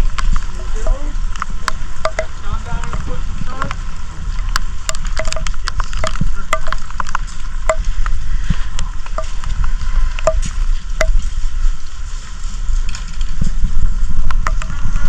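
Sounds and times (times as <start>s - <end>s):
sharp taps of raindrops: 0.0s - 11.9s, 12.8s - 14.8s
steady rain: 0.0s - 15.0s.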